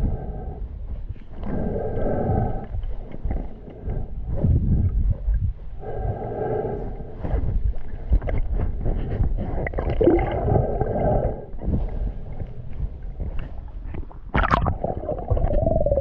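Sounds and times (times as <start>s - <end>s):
underwater rumbling and gurgling: 0.0s - 16.0s.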